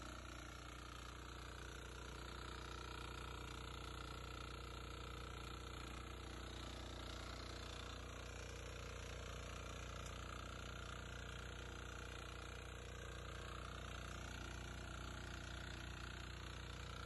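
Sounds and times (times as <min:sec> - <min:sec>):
power tiller engine running: 0:00.0 - 0:17.0
tines churning soil: 0:00.0 - 0:17.0.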